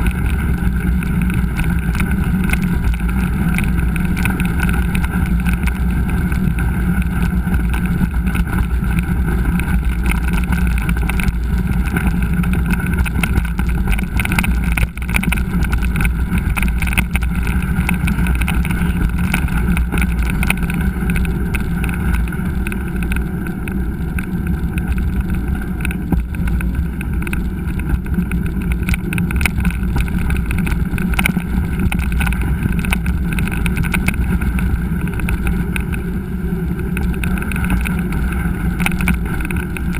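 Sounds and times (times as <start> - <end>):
bike rattles and knocks: 0.0 - 39.9
wind rush: 0.0 - 39.9.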